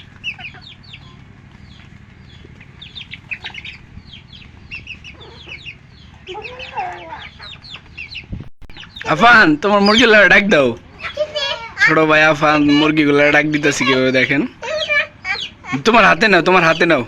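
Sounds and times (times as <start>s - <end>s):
chicks peeping: 0.0s - 17.0s
hen calls: 0.0s - 17.0s.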